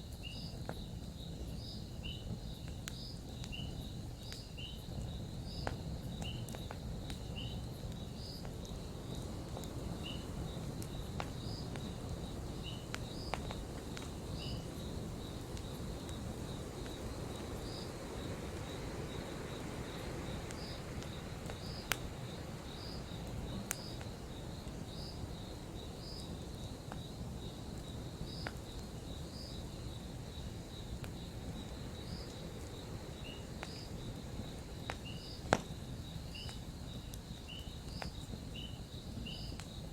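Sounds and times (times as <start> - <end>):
campfire crackling: 0.0 - 39.9
insects chirping: 0.0 - 39.9.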